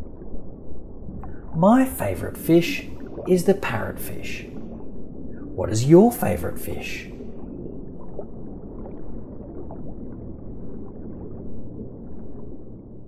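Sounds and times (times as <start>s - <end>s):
dull underwater rumble: 0.0s - 13.0s.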